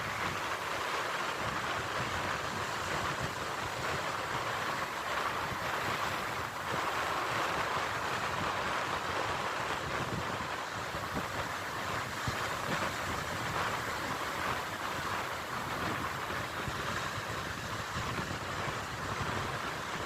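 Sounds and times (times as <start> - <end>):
sea waves washing: 0.0 - 20.0.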